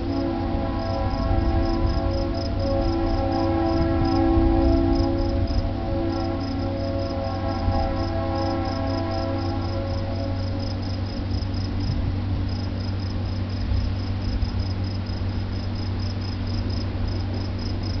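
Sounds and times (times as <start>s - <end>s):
train horn: 0.0s - 13.4s, 14.1s - 18.0s
crickets chirping: 0.0s - 18.0s
low steady rumble: 0.0s - 18.0s.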